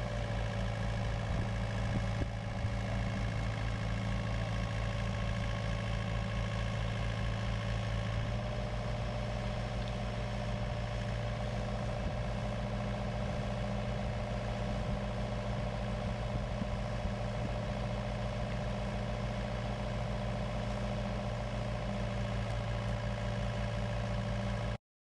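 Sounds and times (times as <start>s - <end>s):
engine idling: 0.0s - 24.8s.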